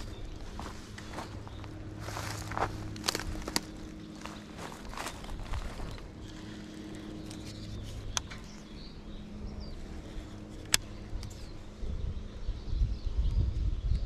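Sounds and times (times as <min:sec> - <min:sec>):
distant engine hum: 0:00.0 - 0:14.0.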